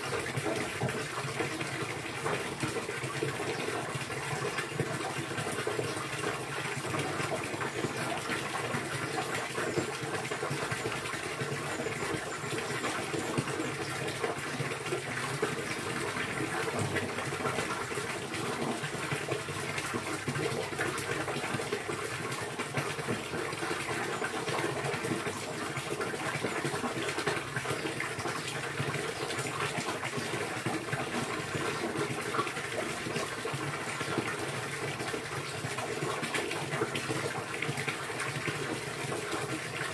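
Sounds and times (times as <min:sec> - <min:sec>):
rushing splashing water: 0:00.0 - 0:39.9.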